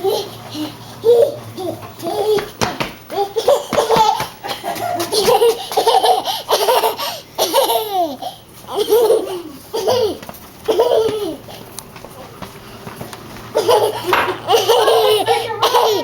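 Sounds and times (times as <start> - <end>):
young child laughing: 0.0 - 11.6, 13.5 - 16.0.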